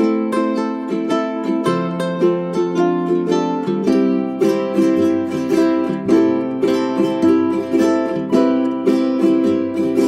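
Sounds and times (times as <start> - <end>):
plucked-string tune: 0.0 - 10.0.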